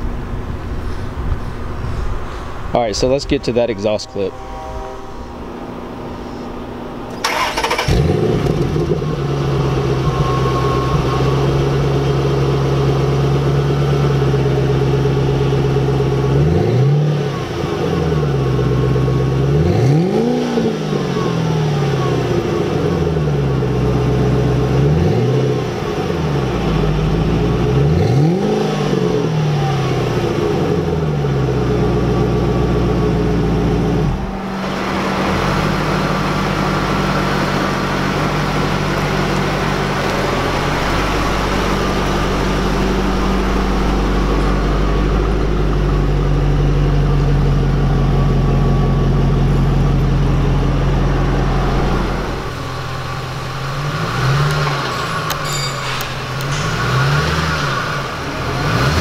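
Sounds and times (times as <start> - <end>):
car engine revving and idling: 4.2 - 59.0.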